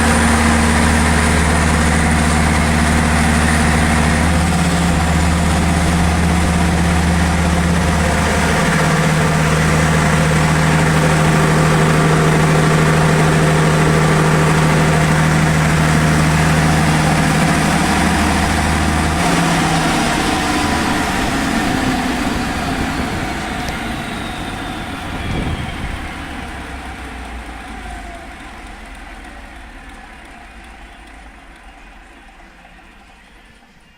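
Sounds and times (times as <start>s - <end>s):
diesel generator engine running: 0.0s - 33.9s.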